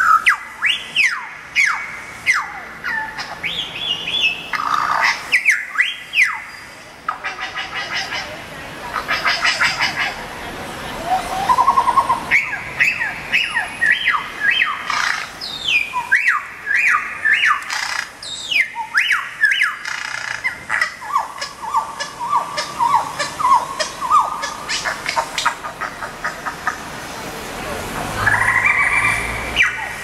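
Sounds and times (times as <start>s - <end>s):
bird calls through loudspeakers: 0.0s - 10.4s, 11.0s - 26.9s, 28.2s - 30.0s.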